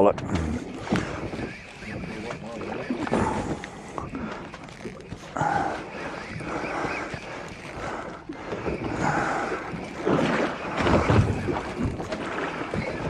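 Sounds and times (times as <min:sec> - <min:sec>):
water washing around boat hull: 0:00.0 - 0:13.0.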